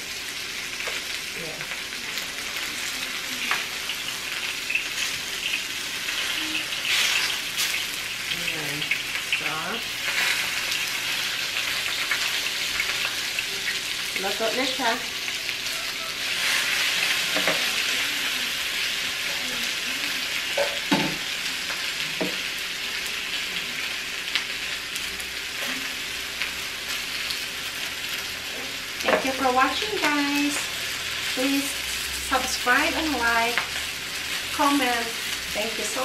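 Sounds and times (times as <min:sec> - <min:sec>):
chicken sizzling on a grill: 0:00.0 - 0:36.0.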